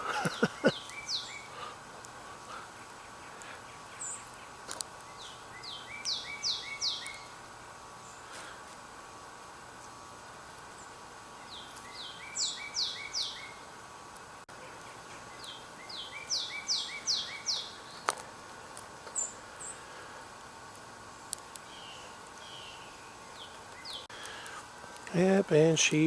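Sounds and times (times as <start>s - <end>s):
songbird singing: 0.0s - 8.6s, 9.2s - 20.0s, 21.0s - 26.0s.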